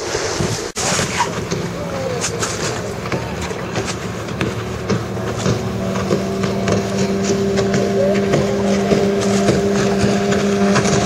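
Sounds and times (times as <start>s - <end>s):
outboard motor running at high speed: 0.8s - 11.0s.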